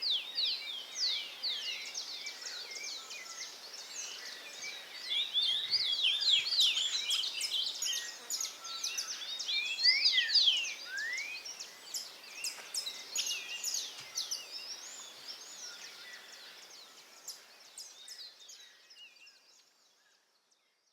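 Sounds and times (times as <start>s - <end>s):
songbirds chirping and singing: 0.0s - 20.9s.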